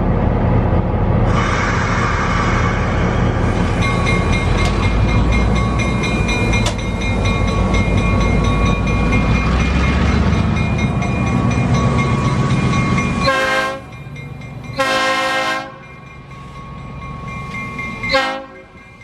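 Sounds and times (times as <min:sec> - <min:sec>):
train passing close by: 0:00.0 - 0:19.0.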